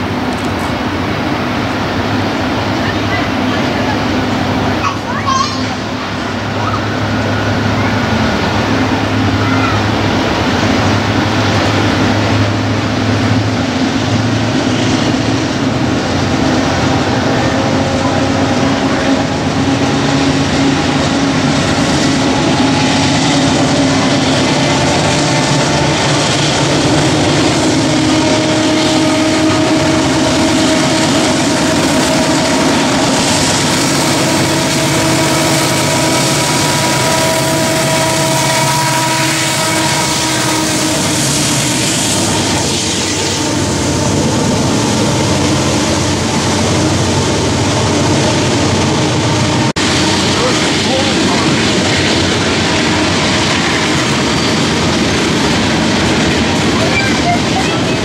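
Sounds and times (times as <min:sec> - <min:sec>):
diesel locomotives running: 0:00.0 - 0:58.0
freight cars rolling past: 0:00.0 - 0:58.0.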